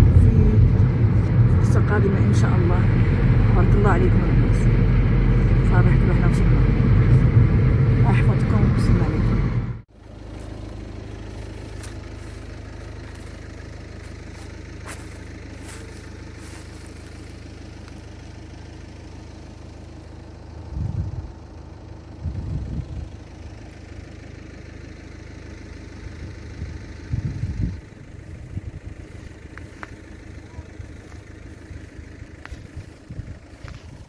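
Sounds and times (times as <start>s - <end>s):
low rumbles: 0.0s - 34.0s
vehicle engine humming: 0.0s - 34.0s.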